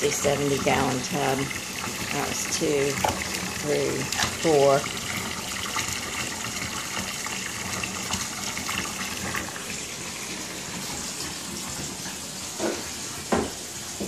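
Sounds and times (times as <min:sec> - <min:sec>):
faucet water pouring into tub: 0:00.0 - 0:14.0.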